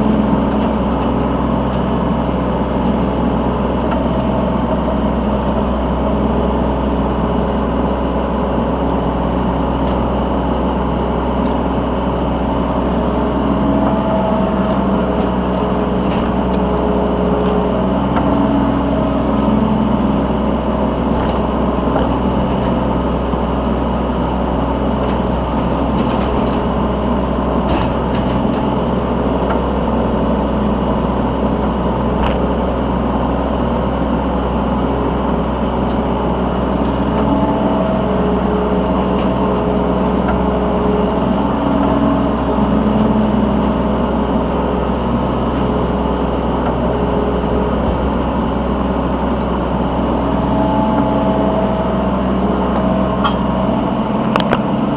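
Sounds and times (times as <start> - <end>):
diesel engine running: 0.0 - 54.9
hydraulic whining: 0.0 - 54.9.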